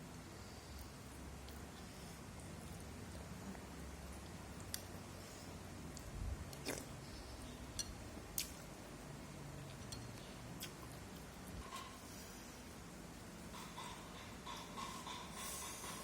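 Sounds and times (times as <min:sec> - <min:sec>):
quiet chewing: 0:00.6 - 0:09.0, 0:09.6 - 0:15.6.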